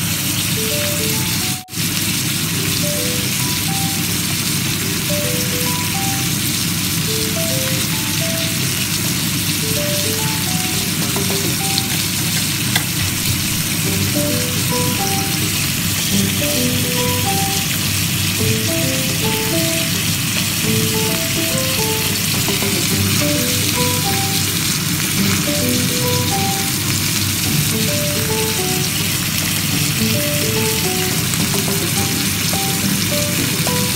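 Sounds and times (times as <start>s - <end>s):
steaks sizzling in a grill pan: 0.2s - 33.9s
light background melody: 0.5s - 1.8s, 2.6s - 33.9s.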